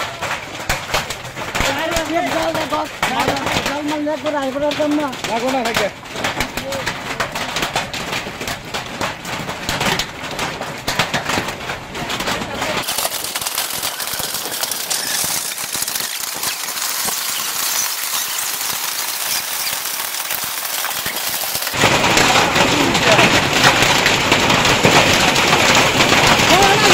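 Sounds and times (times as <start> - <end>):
hail pelting the ground: 0.0 - 26.9
rain hissing: 0.1 - 26.9.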